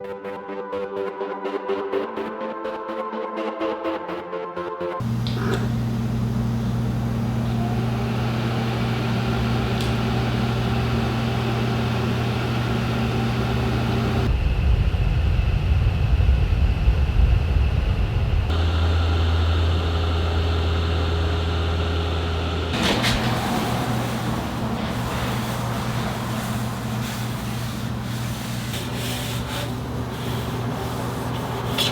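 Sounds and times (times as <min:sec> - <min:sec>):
machine hum: 0:05.0 - 0:31.9.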